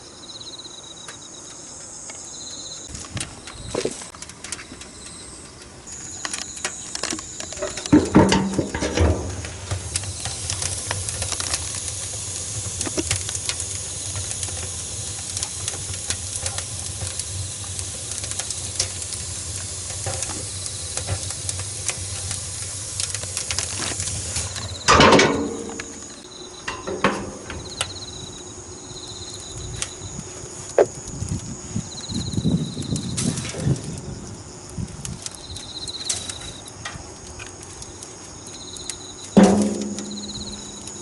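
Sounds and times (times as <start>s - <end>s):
wood fire crackling and hissing: 0.0s - 41.0s
low rumble of stove draft: 0.1s - 41.0s.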